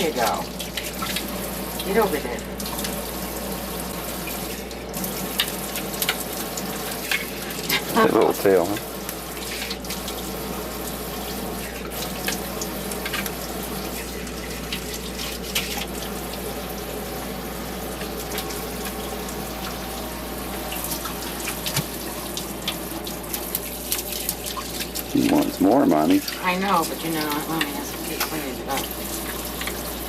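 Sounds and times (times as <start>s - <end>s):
tap water running into sink: 0.0s - 30.0s.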